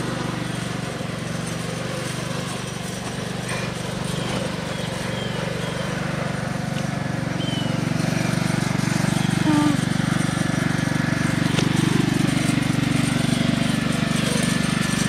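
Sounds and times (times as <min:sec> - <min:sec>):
riding lawn mower engine running: 0:00.0 - 0:15.0.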